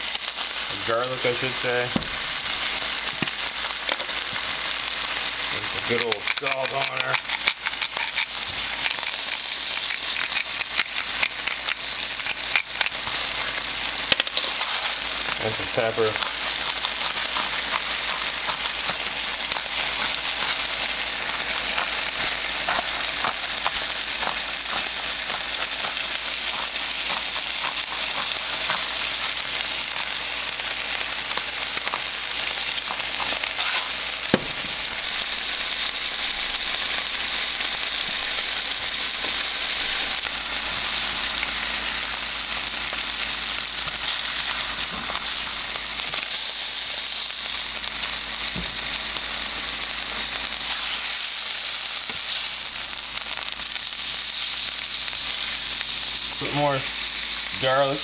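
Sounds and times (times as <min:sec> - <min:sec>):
fish sizzling in oil: 0:00.0 - 0:58.0.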